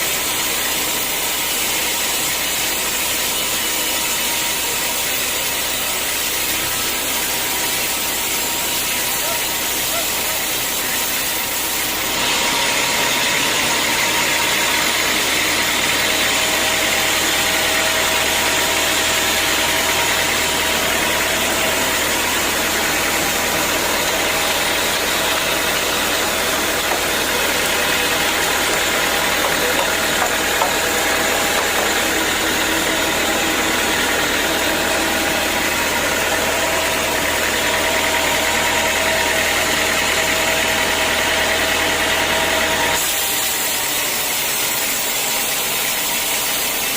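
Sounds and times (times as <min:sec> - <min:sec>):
sawmill machinery running: 0:00.0 - 0:46.9.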